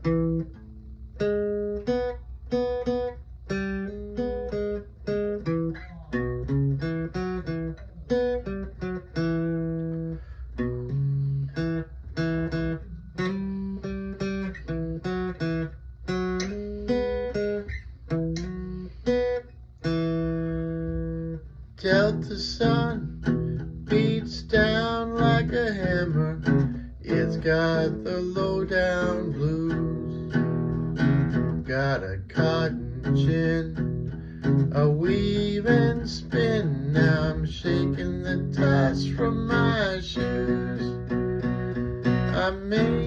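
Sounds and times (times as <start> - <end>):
acoustic guitar playing: 0.0 - 43.0.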